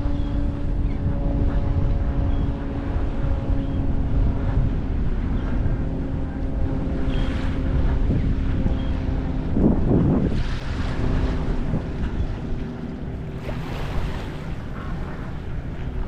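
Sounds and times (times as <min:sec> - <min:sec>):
engine drone: 0:00.0 - 0:16.0
wind buffeting microphone: 0:00.0 - 0:16.0.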